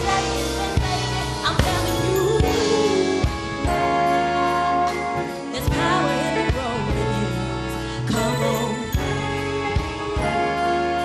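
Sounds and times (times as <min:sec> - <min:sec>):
live band playing soul song: 0:00.0 - 0:11.0.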